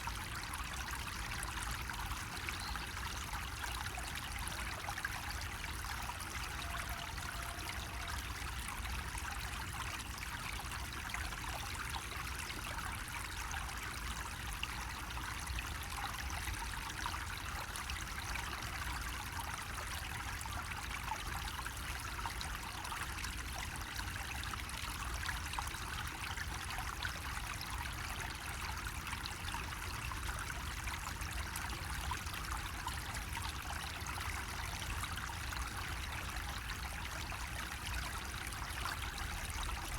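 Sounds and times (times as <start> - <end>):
water trickling from a spout: 0.0 - 39.9.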